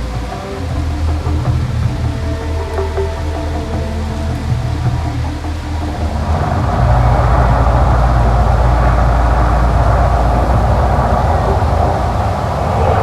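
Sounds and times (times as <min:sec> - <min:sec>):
deep rumble: 0:00.0 - 0:13.0.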